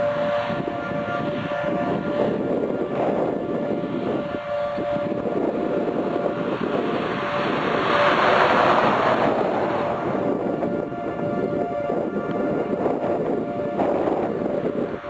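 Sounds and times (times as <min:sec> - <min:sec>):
distant warning siren: 0:00.0 - 0:15.0
wind rushing over microphone: 0:00.0 - 0:15.0.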